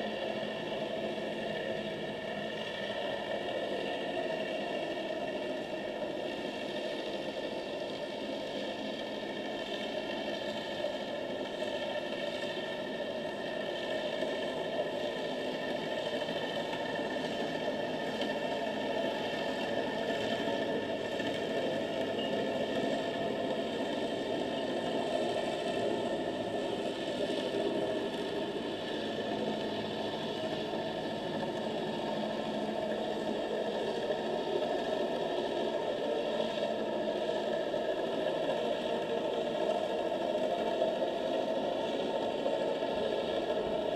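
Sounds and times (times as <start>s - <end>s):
underwater engine-like drone: 0.0s - 43.9s.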